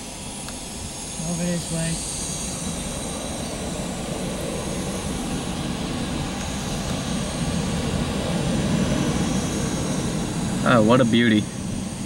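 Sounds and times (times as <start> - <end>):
jet engine drone: 0.0 - 12.0.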